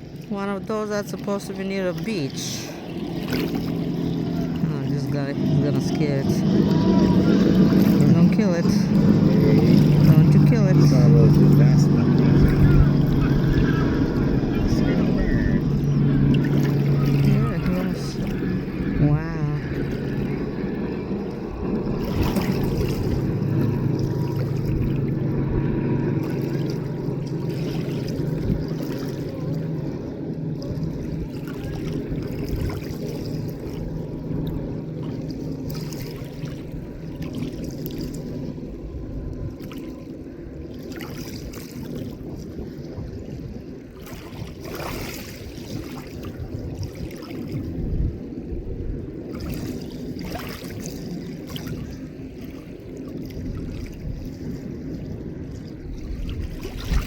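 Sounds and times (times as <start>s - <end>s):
lake water: 0.0s - 57.0s
motorboat engine humming: 0.0s - 57.0s.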